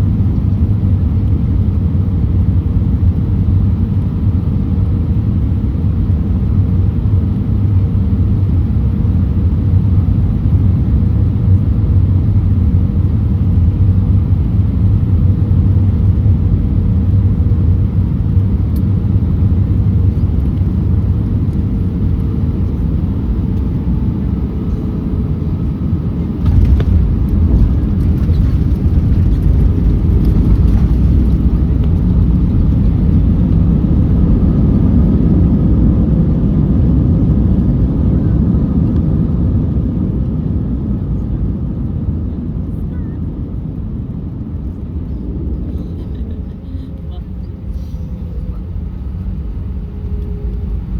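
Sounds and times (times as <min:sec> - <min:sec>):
aircraft engine rumble: 0:00.0 - 0:50.9.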